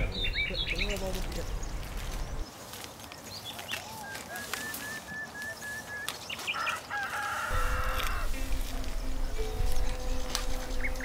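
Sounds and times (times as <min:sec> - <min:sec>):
birds arched calls and chirps: 0:00.0 - 0:11.0.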